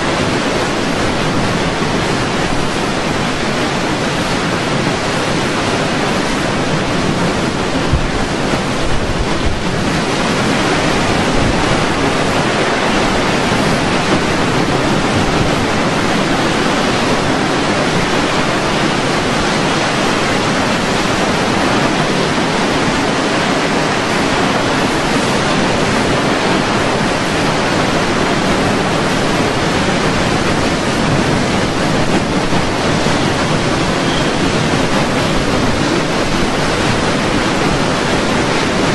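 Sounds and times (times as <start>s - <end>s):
storm wind and surf rushing: 0.0s - 38.9s.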